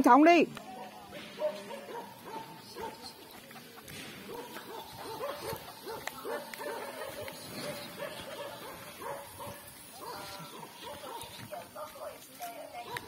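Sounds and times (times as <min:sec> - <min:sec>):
dog barking: 0:00.7 - 0:03.3, 0:04.3 - 0:13.0.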